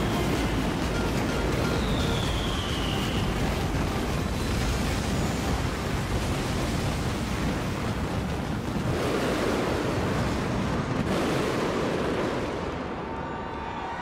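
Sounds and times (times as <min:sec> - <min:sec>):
fireworks exploding: 0:00.0 - 0:13.2.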